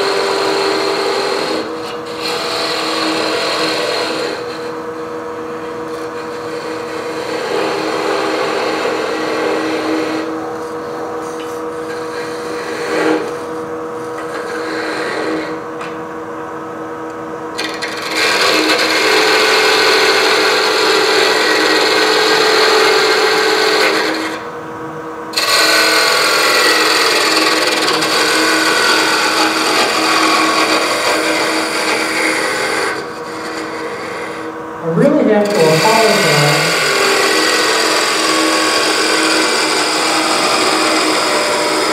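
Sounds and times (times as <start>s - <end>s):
wood lathe humming: 0.0s - 15.9s, 17.5s - 24.5s, 25.3s - 41.9s.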